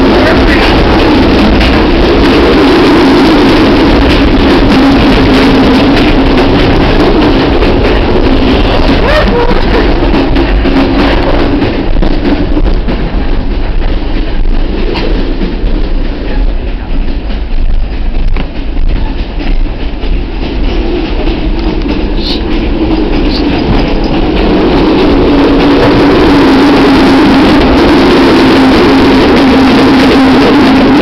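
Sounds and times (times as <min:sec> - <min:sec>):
train wheels rumbling and rattling: 0:00.0 - 0:31.0.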